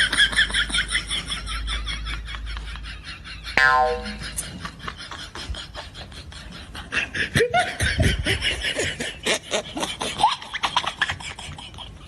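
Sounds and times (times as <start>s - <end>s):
person laughing: 0.4s - 12.0s.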